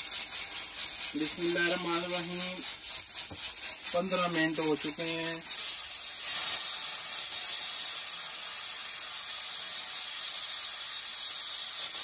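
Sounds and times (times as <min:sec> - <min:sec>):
pressure cooker steam hissing: 0:00.0 - 0:12.0.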